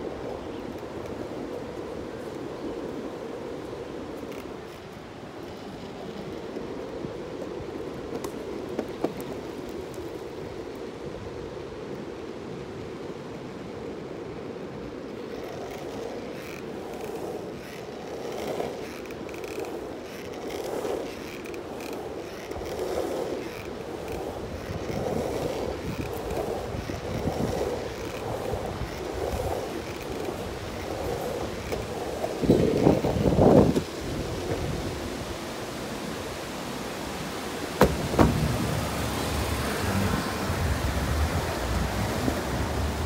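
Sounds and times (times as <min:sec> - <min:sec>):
longboard wheels rolling on asphalt: 0:00.0 - 0:43.0.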